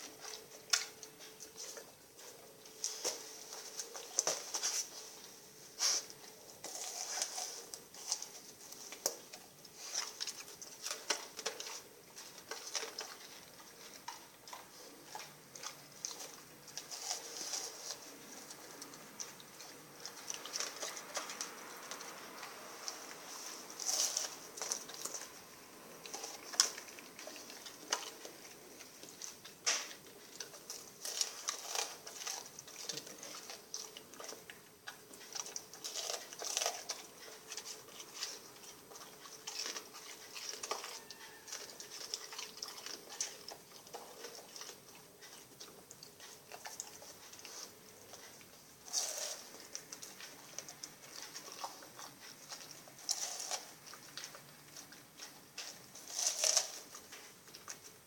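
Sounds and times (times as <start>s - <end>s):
dog chewing and crunching: 0.0s - 58.0s.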